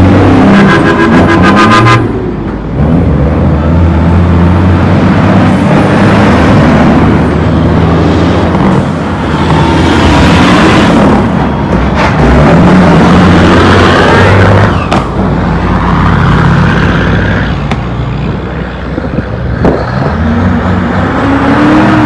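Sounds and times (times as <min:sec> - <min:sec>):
diesel dump trucks driving past: 0:00.0 - 0:22.0.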